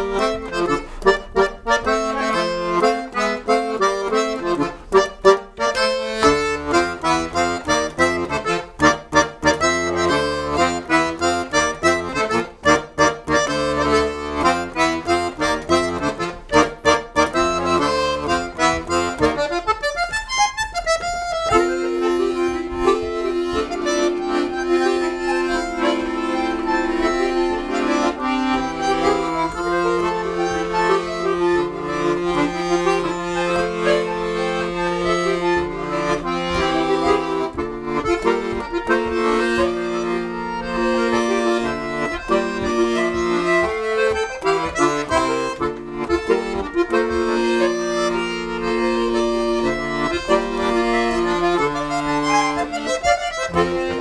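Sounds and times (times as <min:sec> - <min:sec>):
button accordions playing folk tune: 0:00.0 - 0:54.0.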